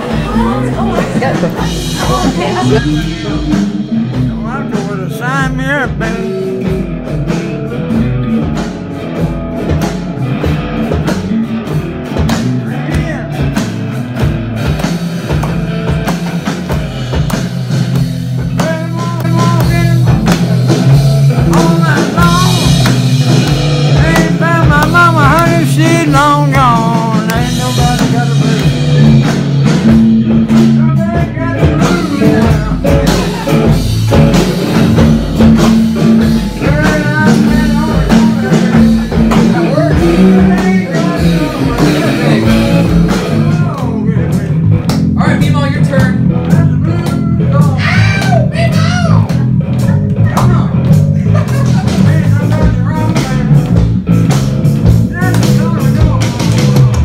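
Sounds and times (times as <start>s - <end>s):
blues band playing: 0.0s - 57.0s.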